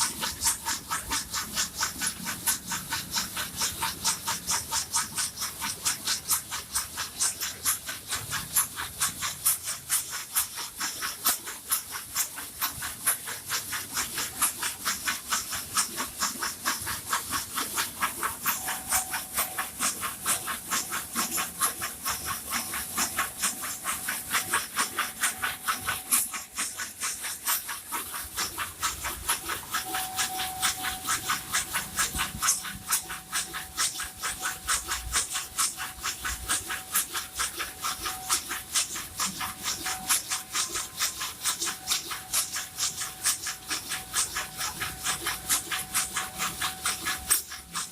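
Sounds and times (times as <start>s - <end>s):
wooden skewers clattering in machine: 0.0s - 47.9s.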